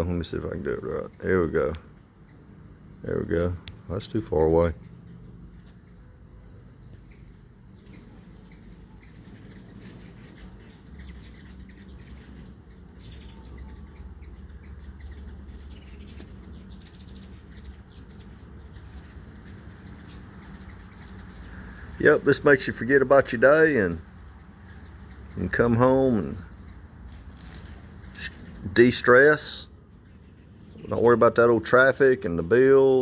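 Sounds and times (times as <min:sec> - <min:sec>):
hummingbird wings whirring: 0:00.0 - 0:33.0.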